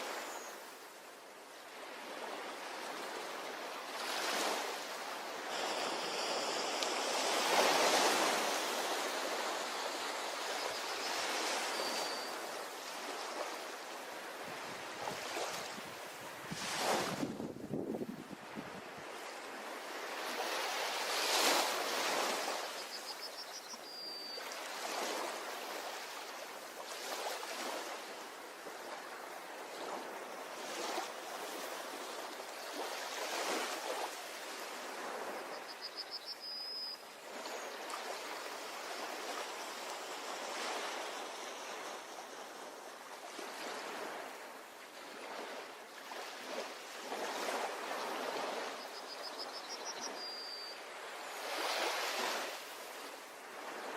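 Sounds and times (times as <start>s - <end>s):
ocean surf on beach: 0.0s - 53.9s.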